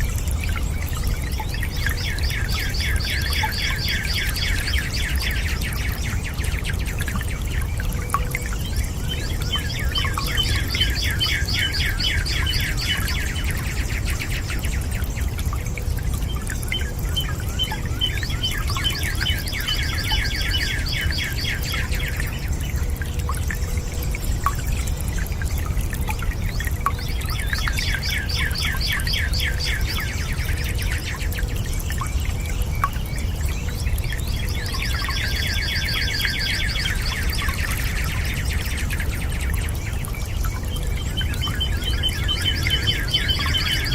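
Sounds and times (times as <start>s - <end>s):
bird singing rapid trills: 0.0s - 43.9s
faint drip-like ticks: 0.0s - 43.9s
low rush of water: 0.0s - 43.9s.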